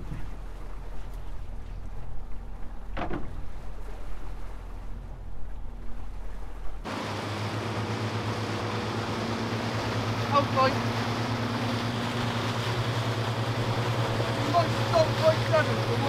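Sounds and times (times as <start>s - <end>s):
boat engine humming: 0.0s - 16.0s
rushing water: 0.0s - 16.0s
wind: 0.0s - 16.0s.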